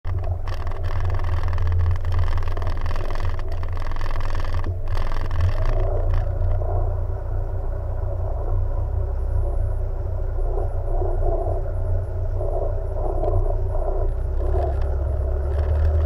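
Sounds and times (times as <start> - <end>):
jet ski engine droning: 0.1 - 16.0.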